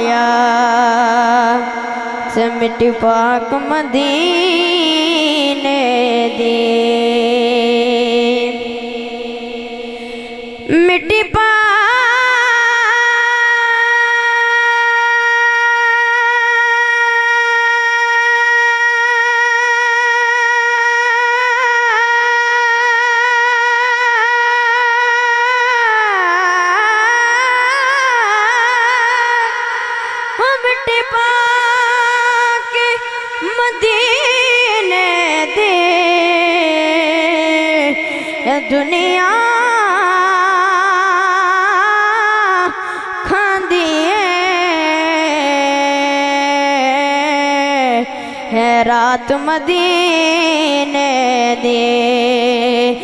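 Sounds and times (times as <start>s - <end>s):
boy singing into microphone: 0.0s - 53.0s.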